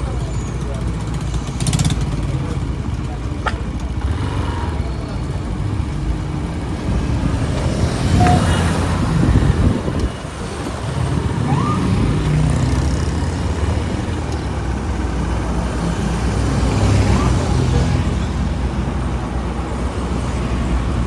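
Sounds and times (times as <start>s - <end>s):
road noise: 0.0s - 21.0s
traffic engines running: 0.0s - 21.0s.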